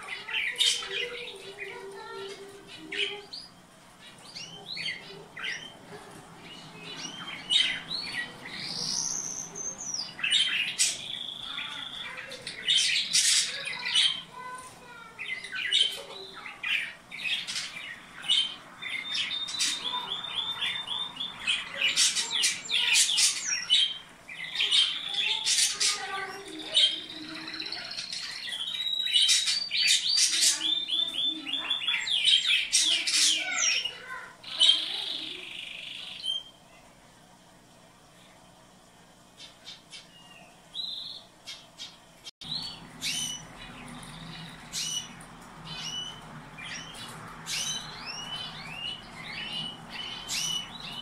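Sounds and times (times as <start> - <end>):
canary singing: 0.0 - 36.7, 39.2 - 51.0.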